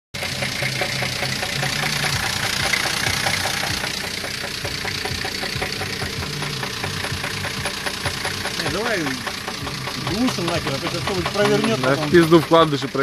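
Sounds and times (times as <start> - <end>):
car engine idling with knock: 0.2 - 13.0.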